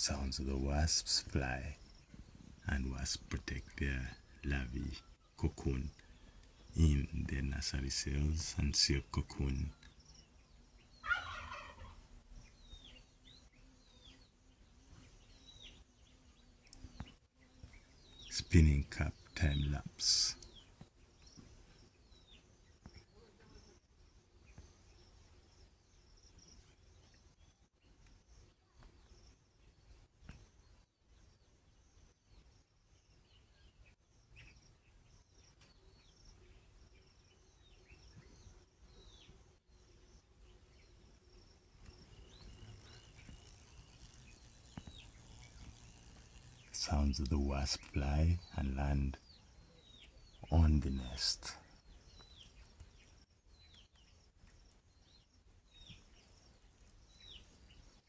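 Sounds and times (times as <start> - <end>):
small bird chirping: 0.0 - 58.0.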